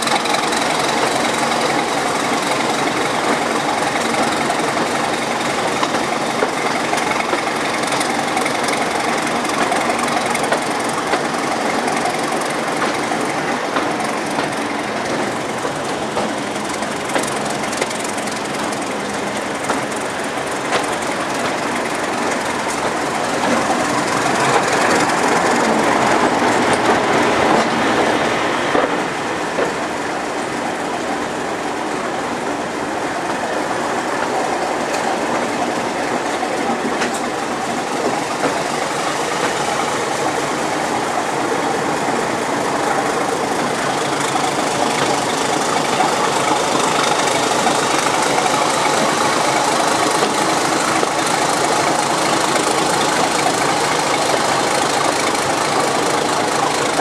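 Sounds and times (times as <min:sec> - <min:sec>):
wheels clicking over rail joints: 0:00.0 - 0:31.0, 0:32.5 - 0:57.0
train coaches rumbling: 0:00.0 - 0:57.0.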